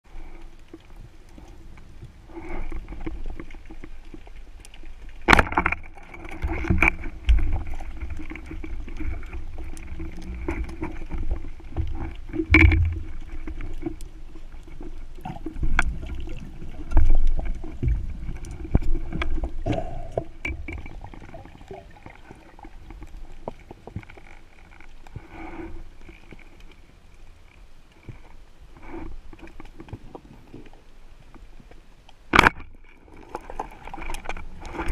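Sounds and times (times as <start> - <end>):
underwater rumble of moving water: 0.0 - 34.9.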